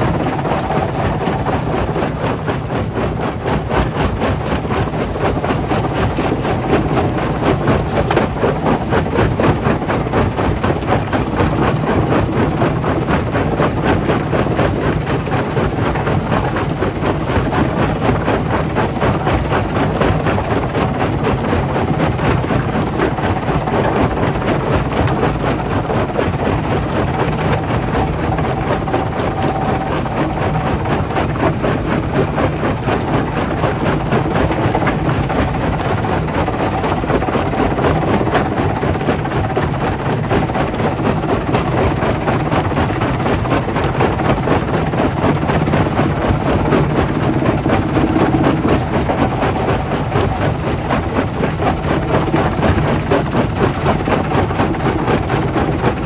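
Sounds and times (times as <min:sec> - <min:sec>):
heavy machinery clatter: 0:00.0 - 0:56.0
low engine hum: 0:00.0 - 0:56.0.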